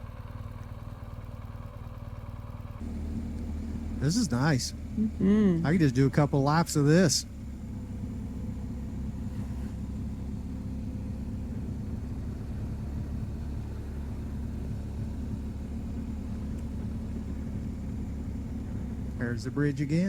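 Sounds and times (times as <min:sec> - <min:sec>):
motorcycle engine humming: 0:00.0 - 0:20.0
road noise: 0:02.6 - 0:20.0.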